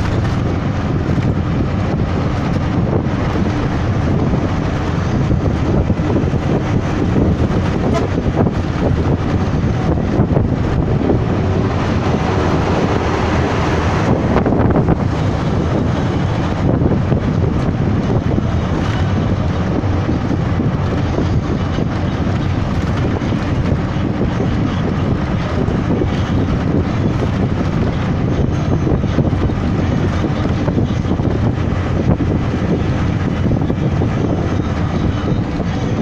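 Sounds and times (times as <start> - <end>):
bus interior rumble: 0.0 - 36.0.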